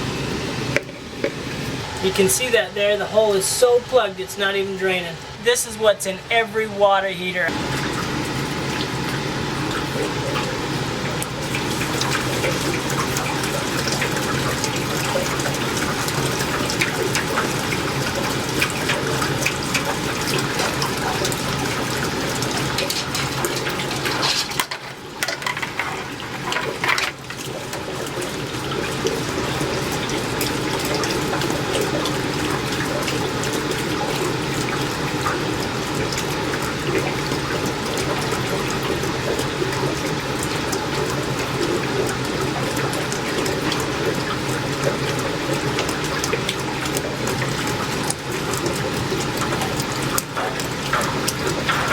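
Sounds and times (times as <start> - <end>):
water pouring into container: 0.0 - 51.9.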